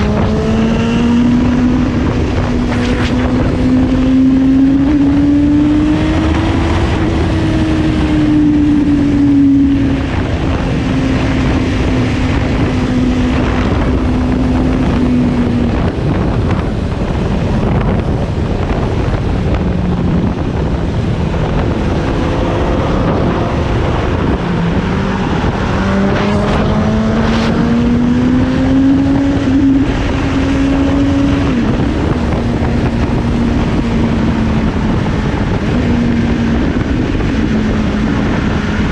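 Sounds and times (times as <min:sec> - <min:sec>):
motorcycle engine accelerating: 0:00.0 - 0:38.9
wind on microphone: 0:00.0 - 0:38.9.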